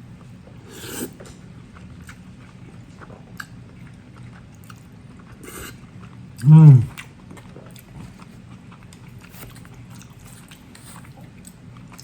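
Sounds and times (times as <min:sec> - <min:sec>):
person chewing noodles: 0:00.6 - 0:12.0.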